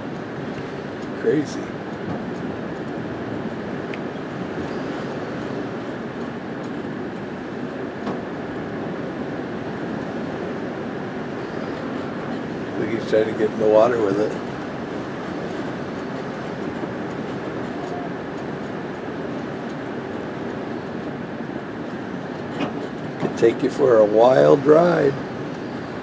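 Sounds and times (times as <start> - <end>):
strong wind against vehicle: 0.0 - 26.0.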